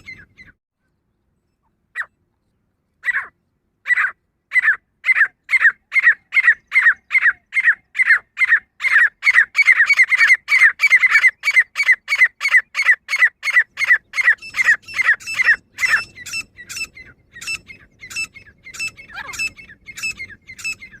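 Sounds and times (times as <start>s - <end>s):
francolin calling: 3.0s - 21.0s.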